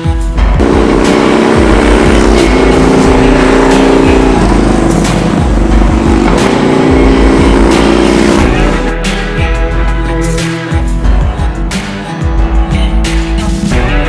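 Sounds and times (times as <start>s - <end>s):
background music with beat: 0.0s - 14.0s
motorcycle engine running: 0.4s - 11.7s.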